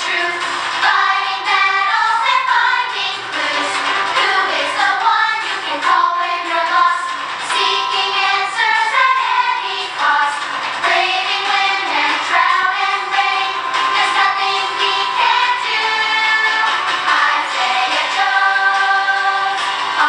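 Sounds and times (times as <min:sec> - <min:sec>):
children singing with instruments: 0:00.0 - 0:20.0.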